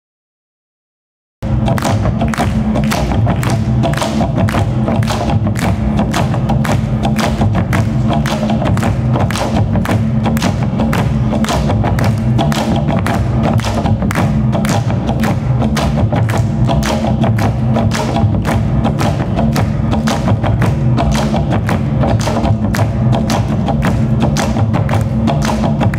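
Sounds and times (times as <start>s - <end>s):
drum ensemble playing: 1.4s - 25.9s.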